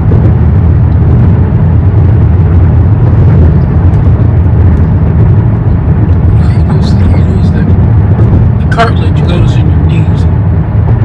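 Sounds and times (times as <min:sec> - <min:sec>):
car road and wind noise: 0:00.0 - 0:11.0.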